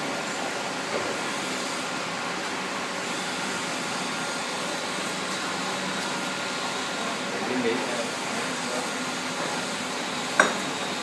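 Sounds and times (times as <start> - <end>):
faint hum and whine: 0.0 - 11.0
furnace fan-like rushing: 0.0 - 11.0.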